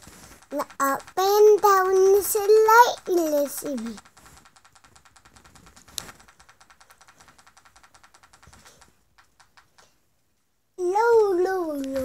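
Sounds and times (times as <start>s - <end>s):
rapid clicking: 0.0s - 10.0s.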